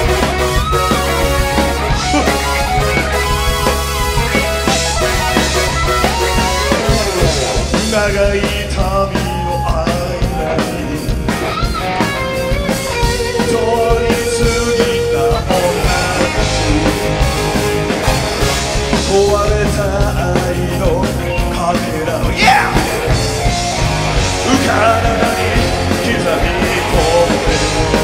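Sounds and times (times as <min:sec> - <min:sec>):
lead electric guitar: 0:00.0 - 0:28.0
rock band playing: 0:00.0 - 0:28.0.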